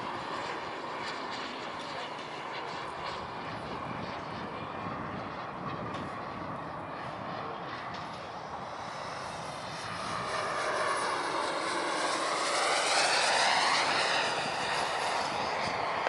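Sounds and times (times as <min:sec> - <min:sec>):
model jet engine passing overhead: 0:00.0 - 0:16.0.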